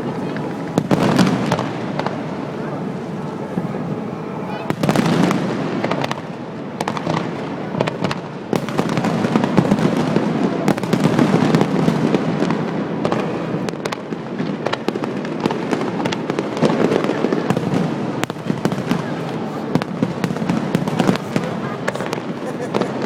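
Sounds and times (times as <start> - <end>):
fireworks cracking and banging: 0.0 - 23.0.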